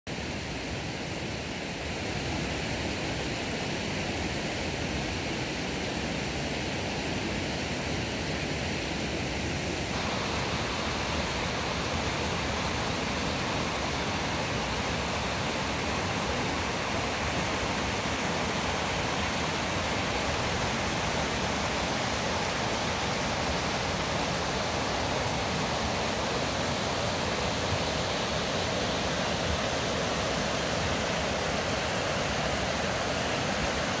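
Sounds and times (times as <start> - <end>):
stream rushing over rocks: 0.1 - 34.0.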